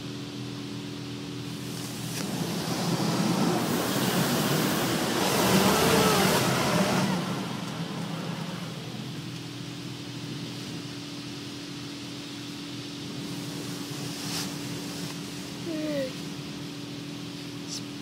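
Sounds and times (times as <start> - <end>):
steady low hum: 0.0 - 18.0
car wash water spray hissing: 0.1 - 18.0.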